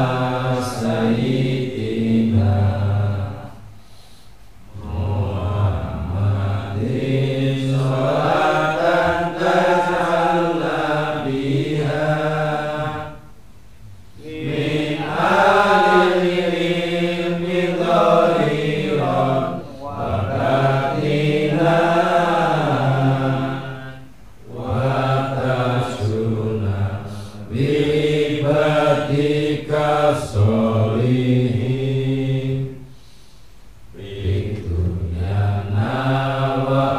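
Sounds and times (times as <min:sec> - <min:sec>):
men chanting: 0:00.0 - 0:03.6, 0:04.7 - 0:13.2, 0:14.2 - 0:32.8, 0:34.0 - 0:36.9.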